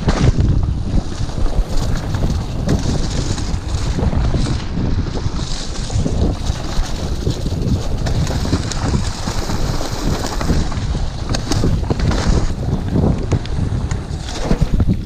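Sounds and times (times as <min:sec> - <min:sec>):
bike rattling: 0:00.0 - 0:15.0
tyres rumbling on wet dirt: 0:00.0 - 0:15.0
wind buffeting microphone: 0:00.0 - 0:15.0.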